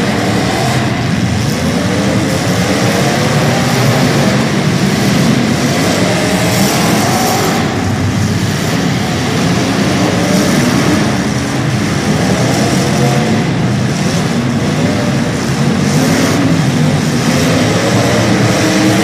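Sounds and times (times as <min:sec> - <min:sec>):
engines revving: 0:00.0 - 0:19.0.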